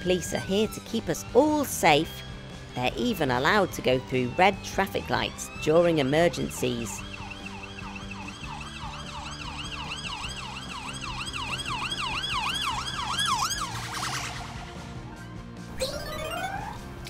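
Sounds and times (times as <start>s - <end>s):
police siren yelp: 0.0s - 16.8s.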